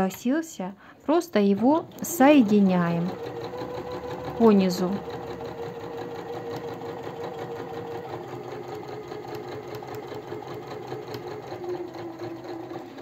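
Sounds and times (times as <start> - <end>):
sewing machine running: 1.2 - 13.0.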